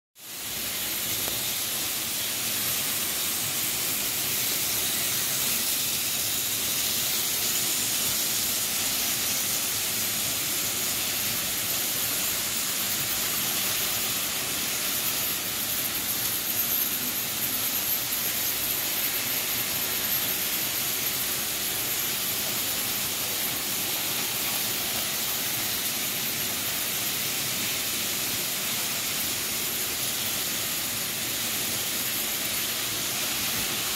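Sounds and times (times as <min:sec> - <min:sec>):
model trains whirring on metal track: 0:00.2 - 0:33.9.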